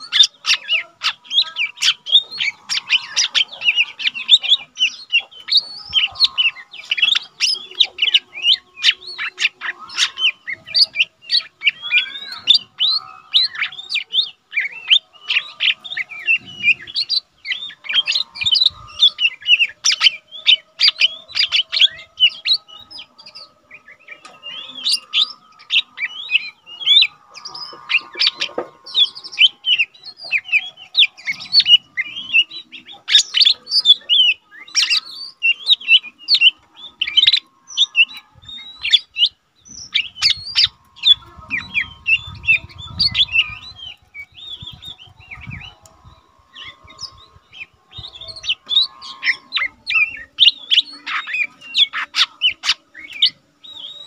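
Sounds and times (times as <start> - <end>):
bird singing high chirps: 0.0 - 54.0.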